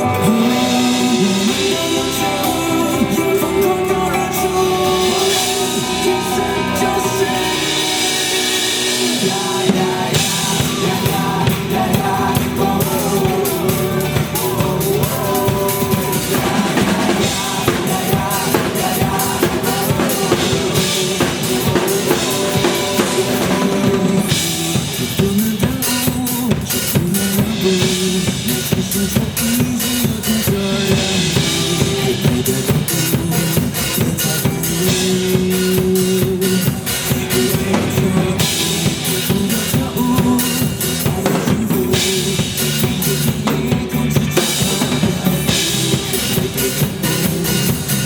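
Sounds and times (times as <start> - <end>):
acoustic drum kit playing: 0.0 - 48.0
rock song with guitars: 0.0 - 48.0.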